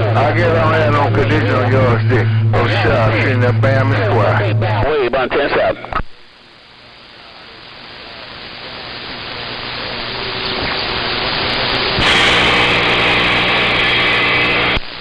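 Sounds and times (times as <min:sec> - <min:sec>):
radio signal: 0:00.0 - 0:15.0
radio static hiss: 0:00.0 - 0:15.0
steady hum: 0:00.0 - 0:15.0.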